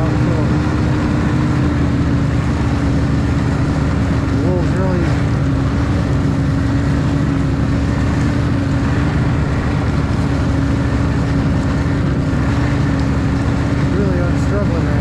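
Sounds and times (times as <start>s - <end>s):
snowmobile engine drone: 0.0s - 15.0s
track and trail noise: 0.0s - 15.0s.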